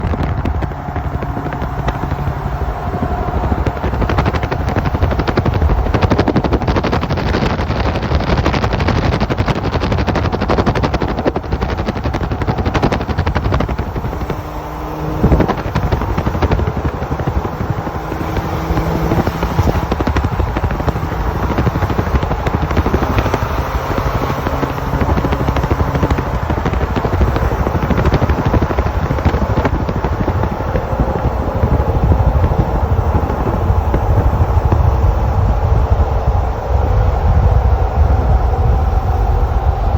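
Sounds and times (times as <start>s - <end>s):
engine drone: 0.0s - 39.9s
wind buffeting microphone: 0.0s - 39.9s.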